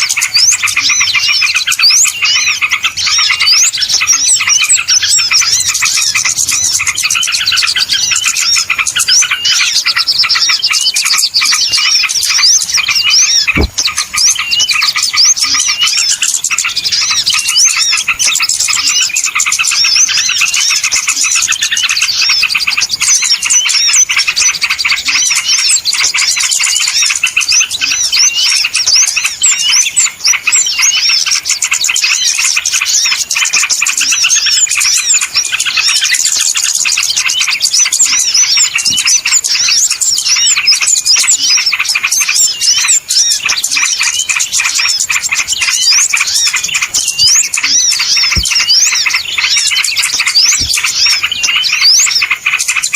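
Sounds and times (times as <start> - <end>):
small songbirds chirping: 0.0 - 52.9.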